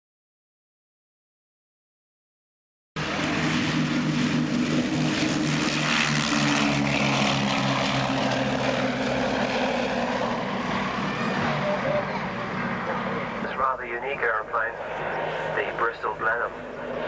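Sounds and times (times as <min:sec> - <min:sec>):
propeller engines droning: 0:03.0 - 0:17.0.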